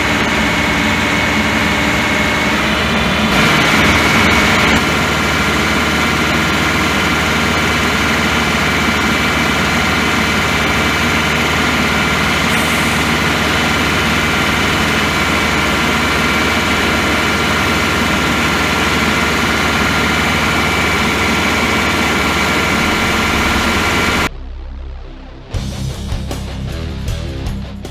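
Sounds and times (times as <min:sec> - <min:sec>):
steady high whine: 0:00.0 - 0:26.9
diesel engine running: 0:00.0 - 0:27.9.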